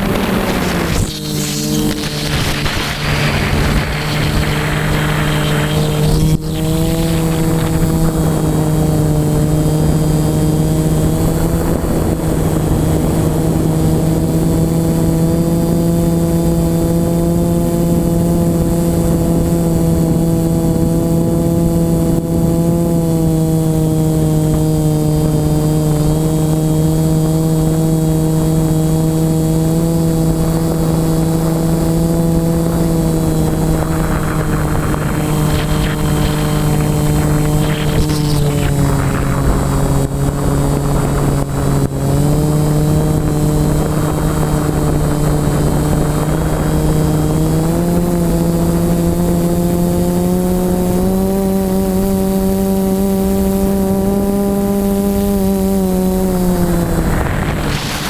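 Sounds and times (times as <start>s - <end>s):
model aircraft motors humming: 0.0s - 58.0s.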